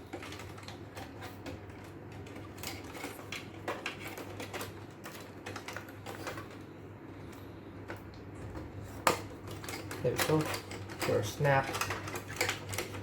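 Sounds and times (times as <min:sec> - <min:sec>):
plastic parts clicking and rattling: 0:00.0 - 0:13.0
steady low hum: 0:00.0 - 0:13.0.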